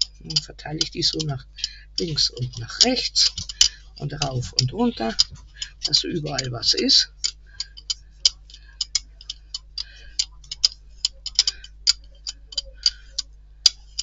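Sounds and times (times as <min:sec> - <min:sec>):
paint roller ticking and crackling: 0:00.0 - 0:14.0.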